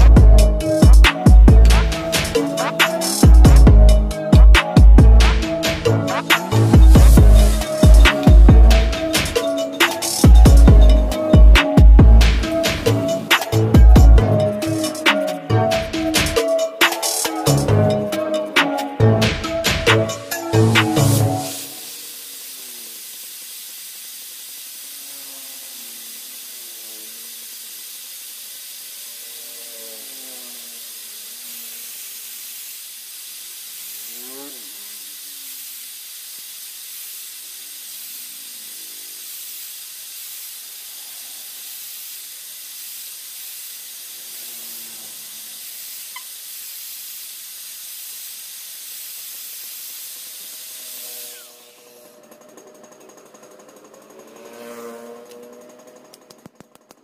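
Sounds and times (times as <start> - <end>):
angle grinder grinding steel: 0.0 - 46.5, 49.6 - 56.8.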